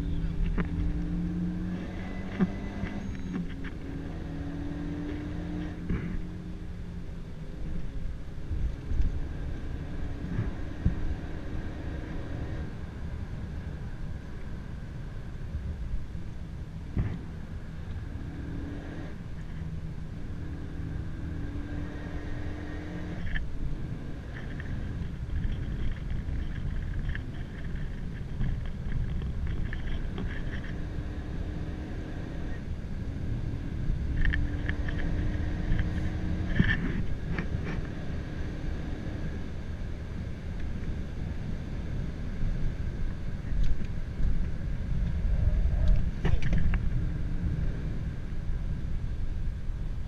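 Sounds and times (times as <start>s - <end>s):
car engine under load: 0.0s - 50.0s
road and tyre rumble: 0.0s - 50.0s.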